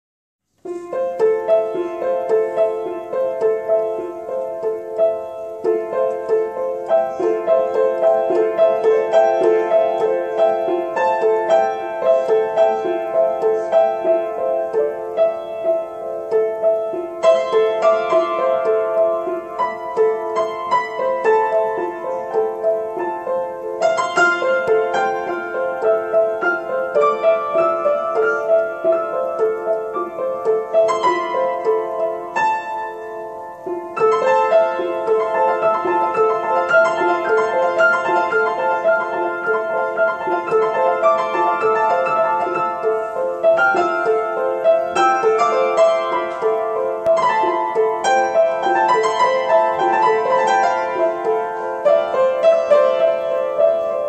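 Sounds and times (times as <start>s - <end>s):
solo piano improvisation: 0.4s - 54.0s.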